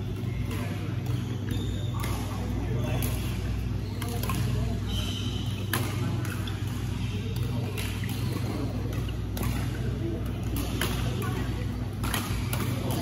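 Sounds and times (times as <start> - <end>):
steady low hum: 0.0 - 13.0
racket striking shuttlecock: 0.2 - 13.0.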